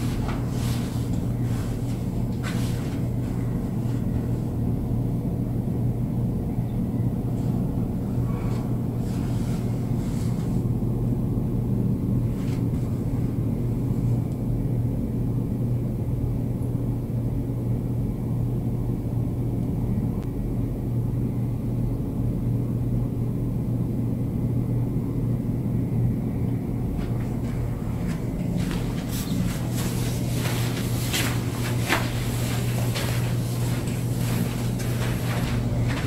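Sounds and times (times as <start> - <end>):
constant low hum: 0.0 - 36.0.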